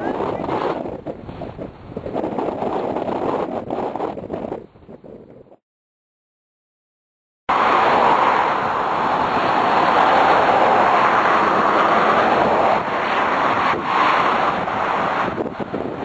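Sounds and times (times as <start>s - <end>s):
strong wind on microphone: 0.0s - 5.6s, 7.5s - 16.0s.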